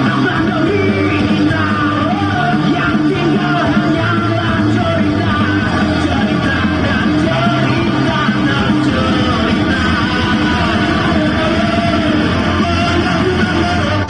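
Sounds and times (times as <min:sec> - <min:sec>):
loud music through speakers: 0:00.0 - 0:14.0.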